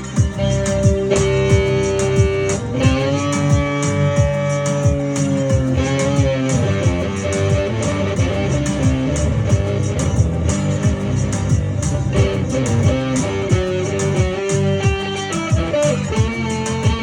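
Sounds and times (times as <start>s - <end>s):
electric guitar with vibrato: 0.0s - 17.0s
steady beat: 0.0s - 17.0s.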